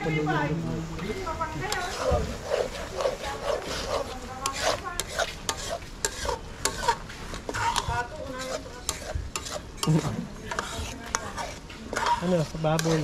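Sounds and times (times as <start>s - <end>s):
stew simmering: 0.0s - 13.0s
metal ladle scraping pan: 1.6s - 13.0s.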